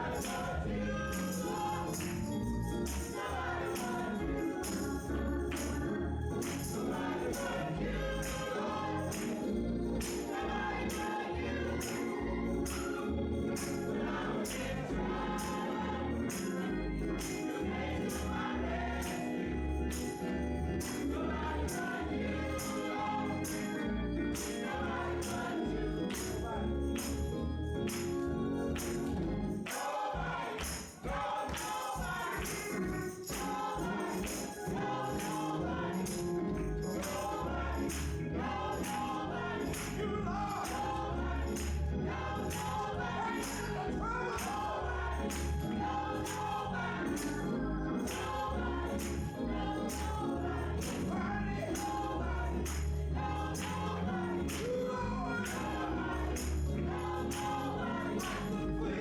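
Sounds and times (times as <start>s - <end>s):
choir singing gospel song: 0.0s - 59.0s
tambourine beating time: 0.0s - 59.0s.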